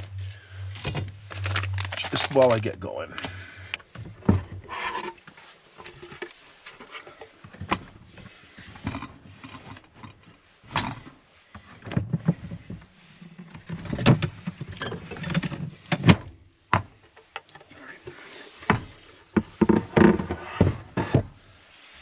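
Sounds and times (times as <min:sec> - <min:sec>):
handling rustles and knocks: 0:00.0 - 0:22.0.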